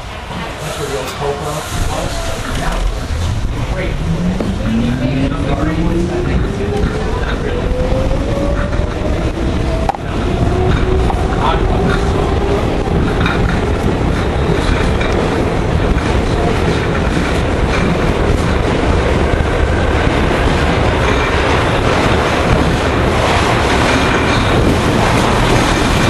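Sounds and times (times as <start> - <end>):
subway car wheels rumbling: 0.0 - 26.0.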